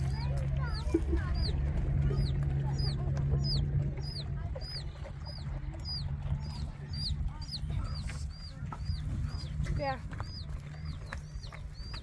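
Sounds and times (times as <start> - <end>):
low steady rumble: 0.0 - 12.0
bird chirping: 0.7 - 12.0.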